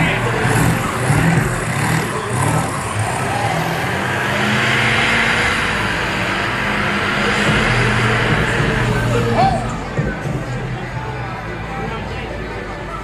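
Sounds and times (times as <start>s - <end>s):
truck engines revving hard: 0.0s - 13.0s.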